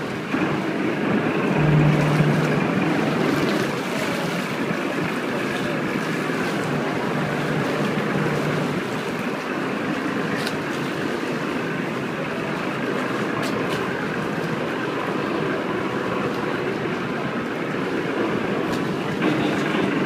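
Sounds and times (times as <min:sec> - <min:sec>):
motorboat running slowly: 0:00.0 - 0:20.0
water washing around hull: 0:00.0 - 0:20.0.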